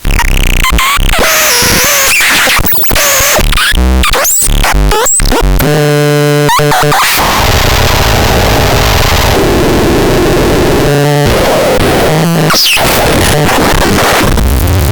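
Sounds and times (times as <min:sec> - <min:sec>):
harsh synthesizer noise bursts: 0:00.0 - 0:14.9
stuttering buzzy synth tone: 0:00.0 - 0:14.9.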